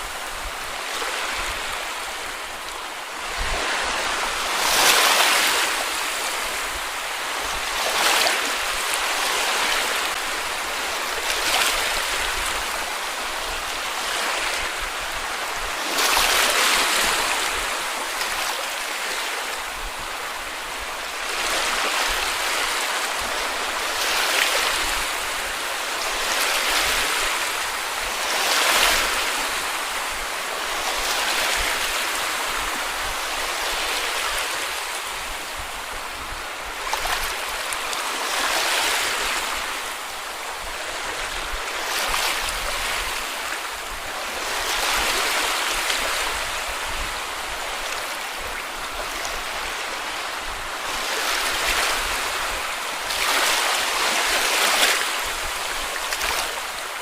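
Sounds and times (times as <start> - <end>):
small waves washing onto beach: 0.0 - 57.0.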